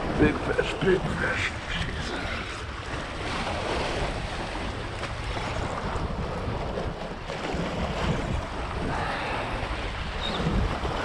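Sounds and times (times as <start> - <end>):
sea waves washing against rocks: 0.0 - 11.0
wind buffeting microphone: 0.0 - 11.0.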